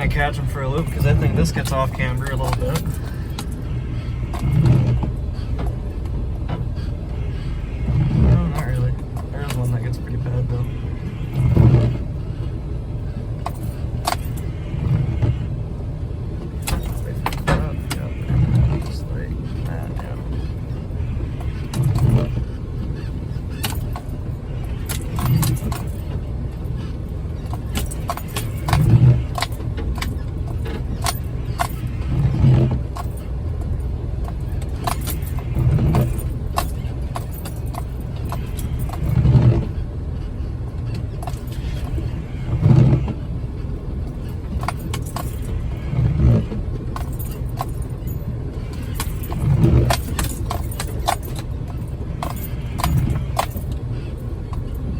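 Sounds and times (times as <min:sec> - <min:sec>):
sharp rattles and clicks: 0:00.0 - 0:15.5, 0:16.4 - 0:54.9
vehicle engine rumble: 0:00.0 - 0:54.9.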